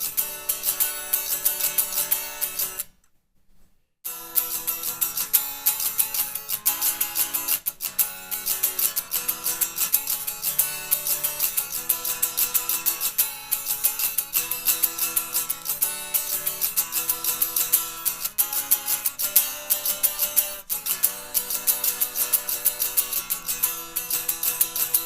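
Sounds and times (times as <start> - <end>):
guitar strumming chords: 0.0 - 2.9, 4.1 - 25.0.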